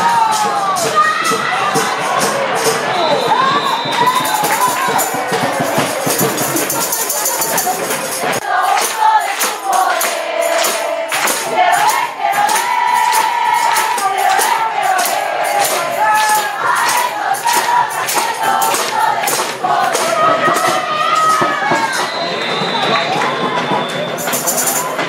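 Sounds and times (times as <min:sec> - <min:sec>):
tambourine shaking: 0:00.0 - 0:23.0, 0:23.8 - 0:25.0
people singing: 0:00.0 - 0:25.0.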